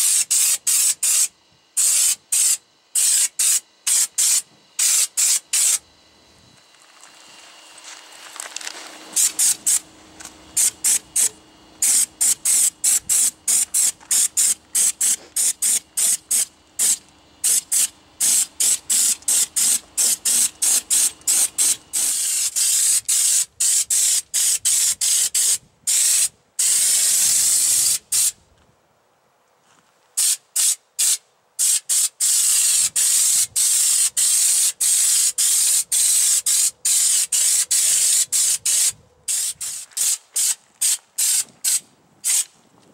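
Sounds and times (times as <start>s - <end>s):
spray gun hissing: 0.0s - 5.8s, 9.0s - 28.4s, 30.2s - 42.5s.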